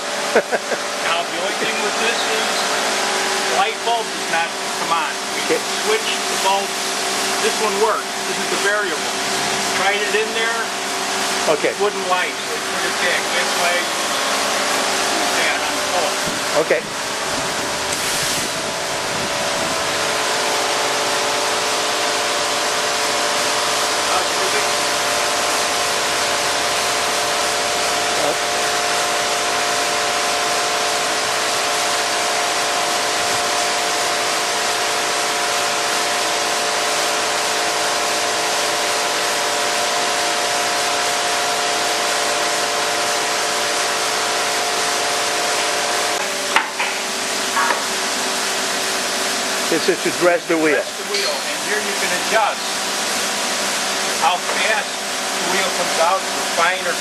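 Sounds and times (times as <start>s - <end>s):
surface grinder humming: 0.0s - 57.0s.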